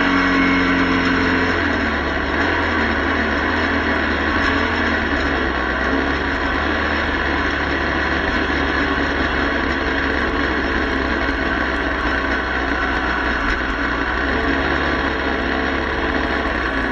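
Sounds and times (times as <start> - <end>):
motorcycle engine running: 0.0 - 16.9
road rumble: 0.0 - 16.9.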